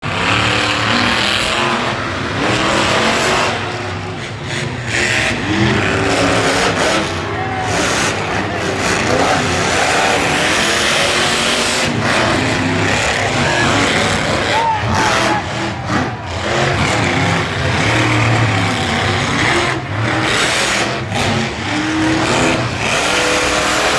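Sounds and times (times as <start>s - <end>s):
monster truck engine revving: 0.0s - 23.9s.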